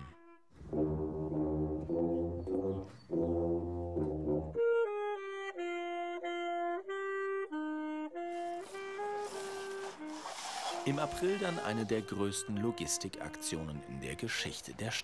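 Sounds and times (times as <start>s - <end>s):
tubas playing low tune: 0.0s - 14.4s
saxophone solo melody: 0.2s - 14.3s.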